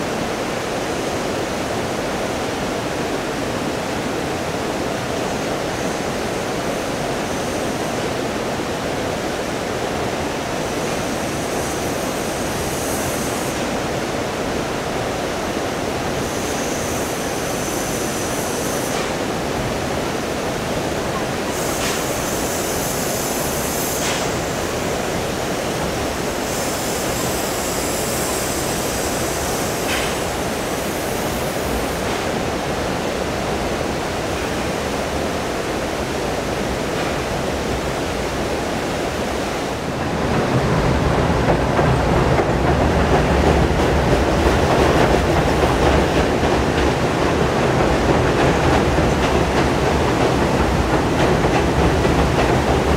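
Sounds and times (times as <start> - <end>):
high hiss: 0.2 - 52.9.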